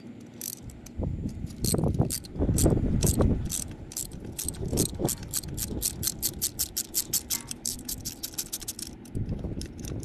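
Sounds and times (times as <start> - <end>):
ratchet clicking: 0.2 - 10.0.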